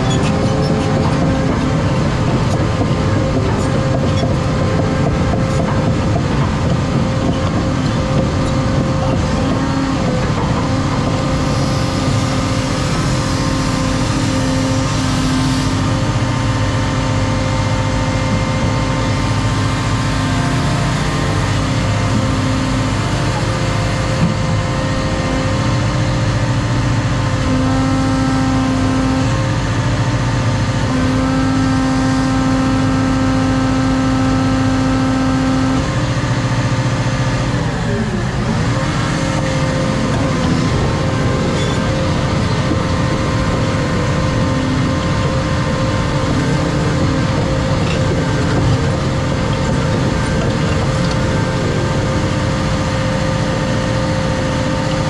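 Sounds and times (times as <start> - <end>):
excavator diesel engine and hydraulics: 0.0 - 55.0.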